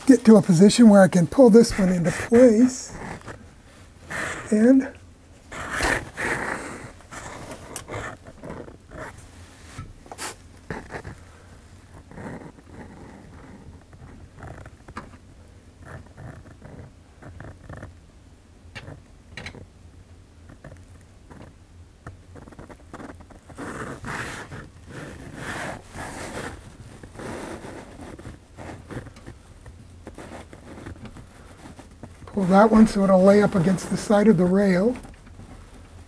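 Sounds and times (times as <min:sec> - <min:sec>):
scratchy rustling and rubbing: 0:00.0 - 0:15.2, 0:15.8 - 0:17.9, 0:20.5 - 0:36.0.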